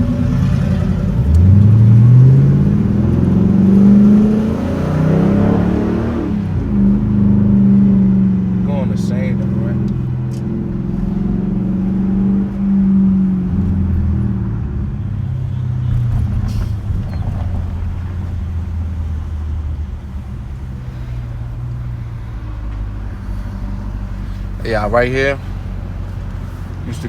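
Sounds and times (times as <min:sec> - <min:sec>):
loud vee-eight exhaust droning: 0:00.0 - 0:27.0.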